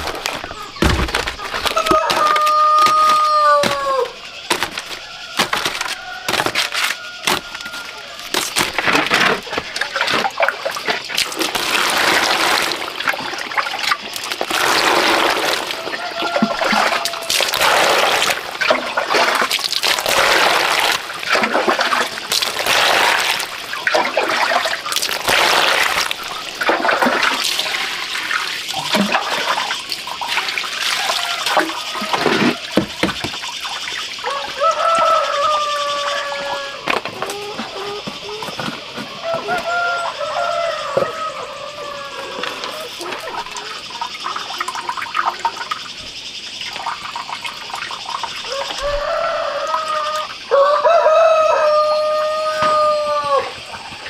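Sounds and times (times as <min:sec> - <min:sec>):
water sloshing in plastic basin: 0:00.0 - 0:50.5.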